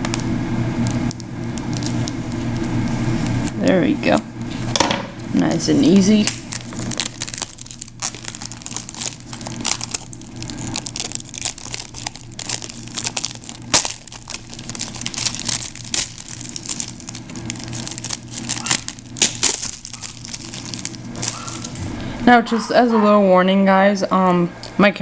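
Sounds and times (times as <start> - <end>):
plastic wrap crinkling: 0.0 - 22.0.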